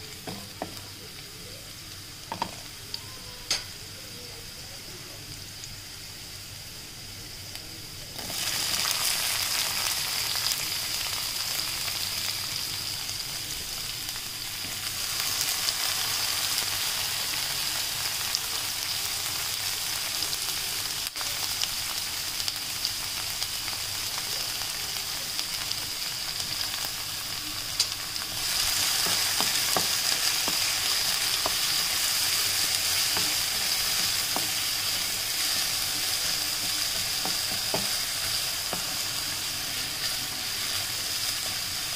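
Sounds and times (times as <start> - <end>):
peppers sizzling in hot oil: 0.0 - 41.9.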